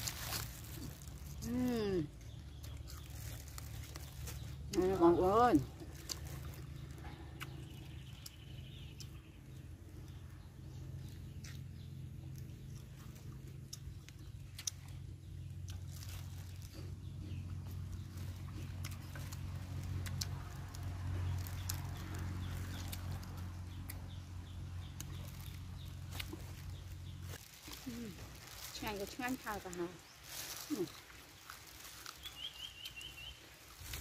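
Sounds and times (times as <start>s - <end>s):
crunching raw vegetable: 0.0s - 34.0s
steady low hum: 0.0s - 34.0s.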